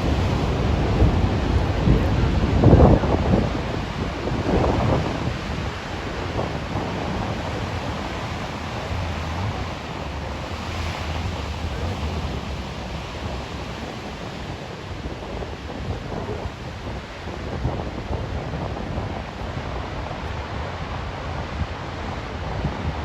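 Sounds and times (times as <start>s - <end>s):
surf rushing and breaking: 0.0s - 23.0s
wind buffeting microphone: 0.0s - 23.0s.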